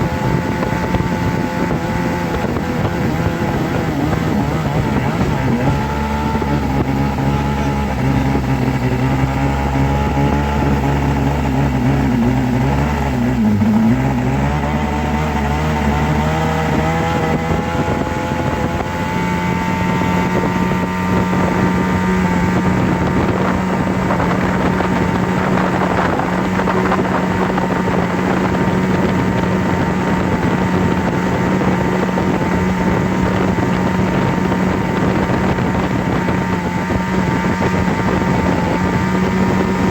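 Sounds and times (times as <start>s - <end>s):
low motor hum: 0.0s - 39.9s.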